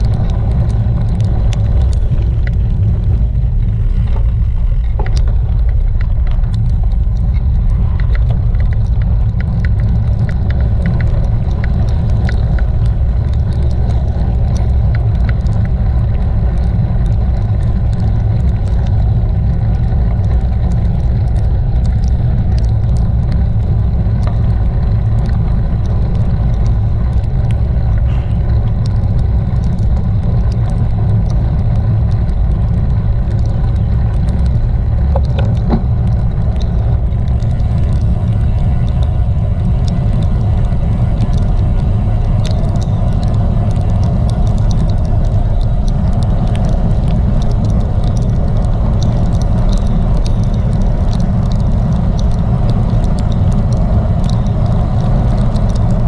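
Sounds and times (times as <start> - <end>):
bicycle riding rumble: 0.0 - 56.0
light ticks: 0.0 - 56.0
wind on microphone: 0.0 - 56.0.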